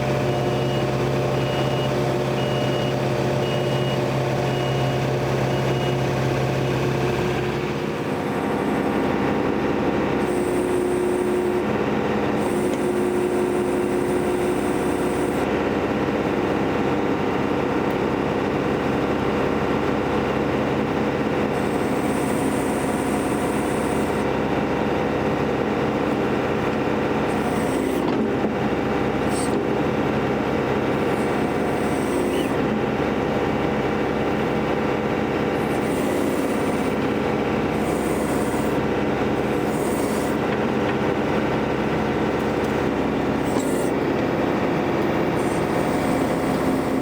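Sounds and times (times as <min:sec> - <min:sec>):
backhoe engine running: 0:00.0 - 0:47.0.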